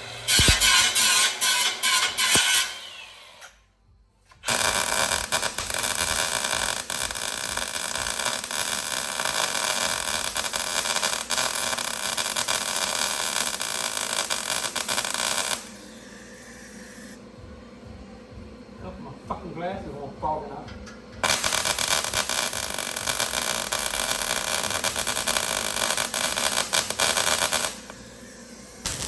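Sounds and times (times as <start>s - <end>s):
power tool on steel plate: 0.0s - 3.6s, 4.3s - 17.2s, 21.2s - 29.0s.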